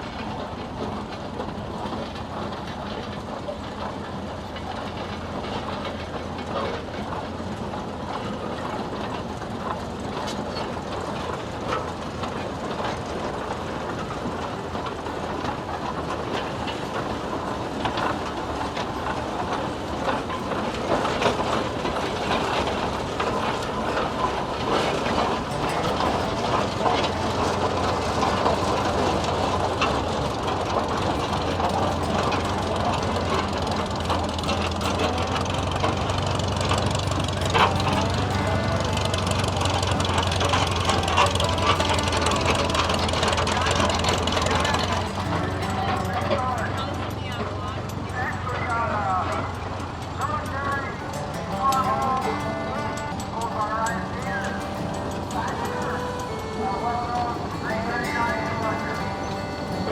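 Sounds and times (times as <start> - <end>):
steam traction engine clattering: 0.0 - 59.9.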